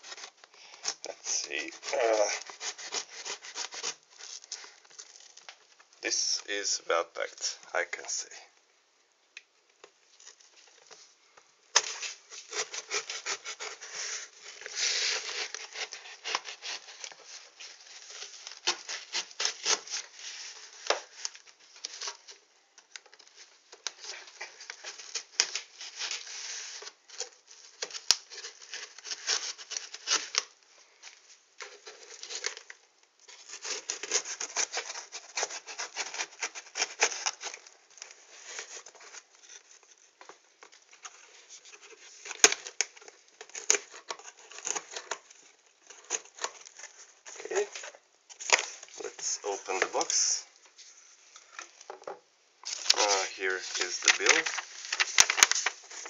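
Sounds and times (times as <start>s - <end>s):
cardboard parcel being opened: 0.0s - 6.4s, 10.2s - 51.8s, 52.6s - 56.0s.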